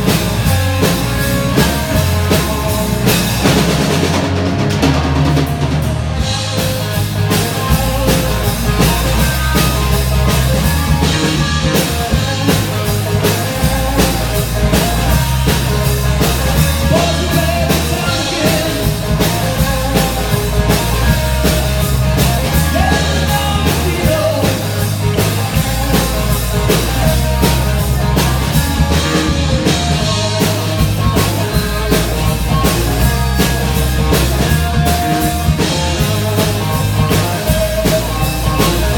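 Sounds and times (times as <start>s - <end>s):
rock music with drums and bass: 0.0s - 38.9s.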